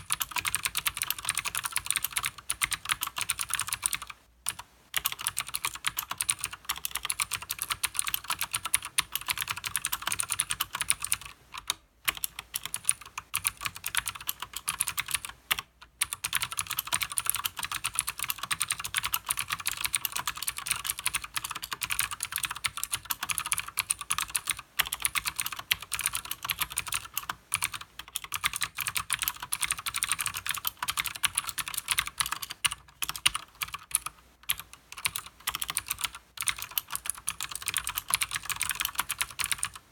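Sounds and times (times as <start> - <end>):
fast typing on clicky keyboard: 0.0 - 39.9.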